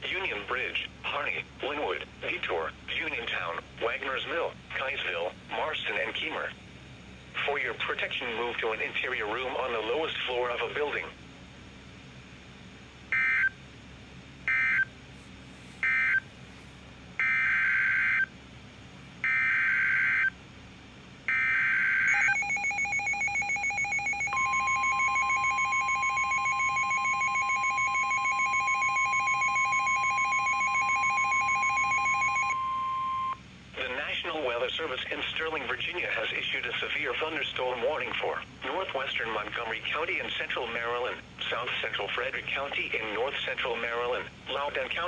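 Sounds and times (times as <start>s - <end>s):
steady weather alert tone: 0.0s - 11.2s, 15.8s - 16.4s, 19.2s - 20.4s, 21.3s - 45.0s.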